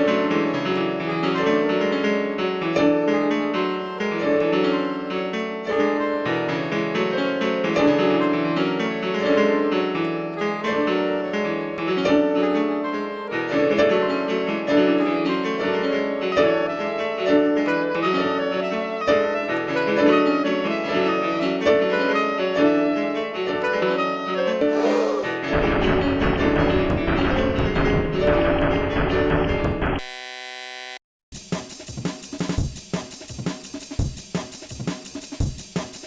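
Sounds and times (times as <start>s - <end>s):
lively piano music: 0.0s - 30.0s.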